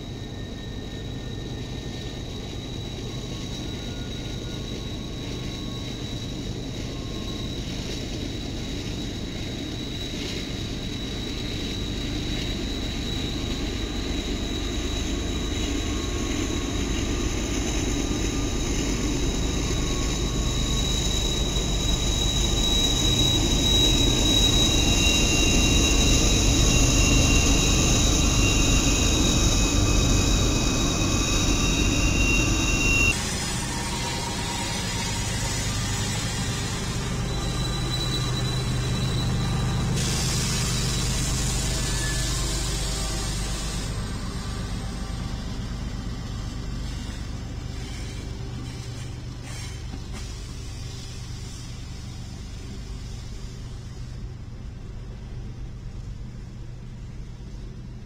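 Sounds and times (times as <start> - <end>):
high-pitched whine: 0.0 - 53.9
diesel locomotive engines droning: 0.0 - 58.0.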